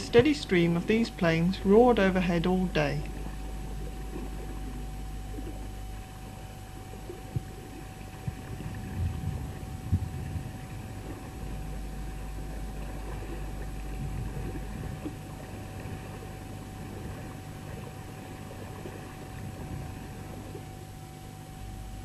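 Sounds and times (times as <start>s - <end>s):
outboard motor humming: 0.0s - 22.0s
water noise: 0.0s - 22.0s
wind: 3.1s - 22.0s.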